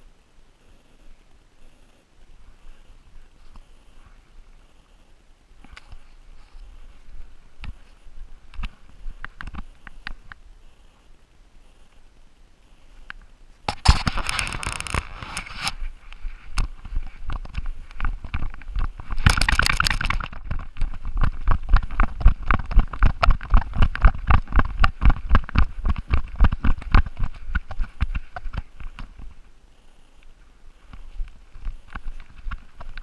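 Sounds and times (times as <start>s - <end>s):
crackling rustle: 0.0s - 33.0s.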